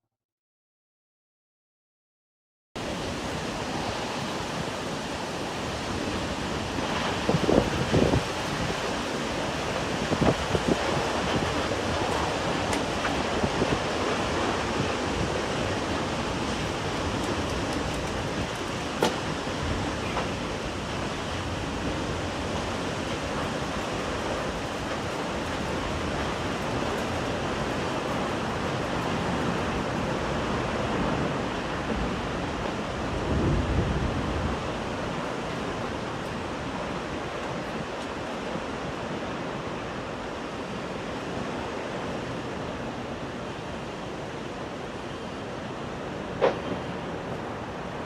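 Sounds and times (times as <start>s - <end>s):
wind roaring over microphone: 2.8s - 48.0s.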